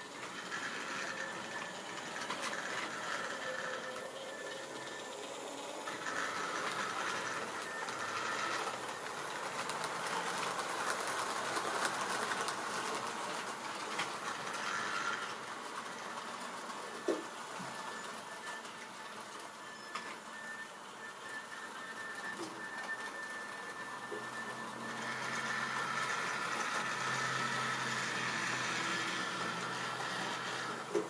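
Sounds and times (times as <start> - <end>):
model train wheels rattling on rails: 0.0 - 19.5, 24.7 - 31.0.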